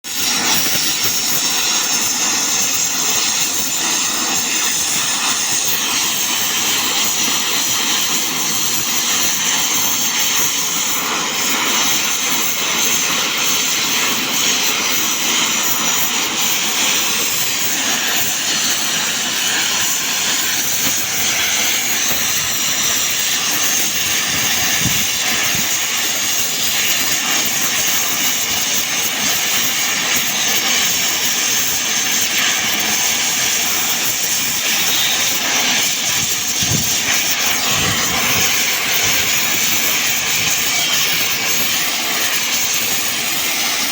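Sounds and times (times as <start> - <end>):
torch flame hissing: 0.0 - 43.9.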